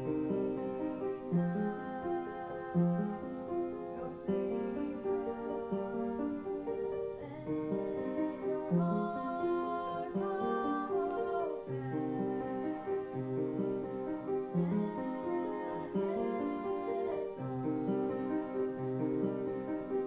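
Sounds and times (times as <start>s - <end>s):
slow piano song: 0.0s - 20.0s.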